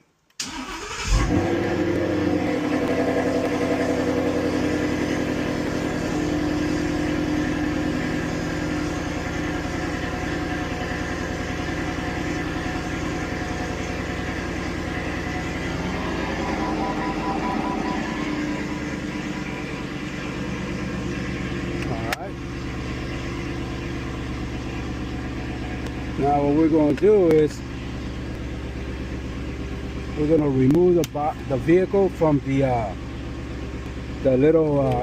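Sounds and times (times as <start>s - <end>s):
car engine idling: 0.4s - 35.0s.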